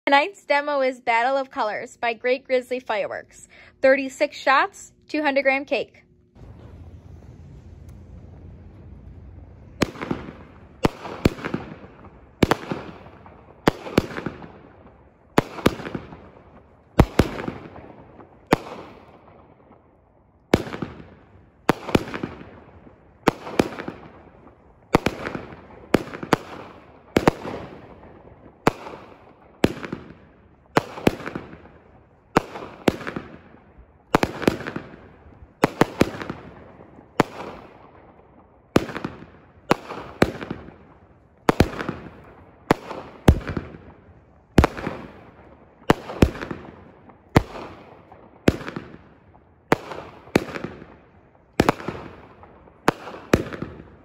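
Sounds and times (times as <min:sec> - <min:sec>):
firework bangs: 0:06.4 - 0:19.8, 0:20.5 - 0:54.0.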